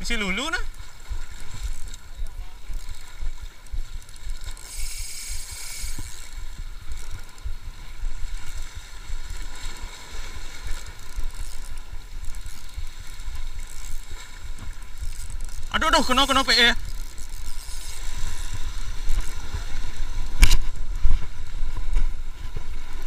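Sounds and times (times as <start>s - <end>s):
fishing reel whirring: 0.0s - 20.8s.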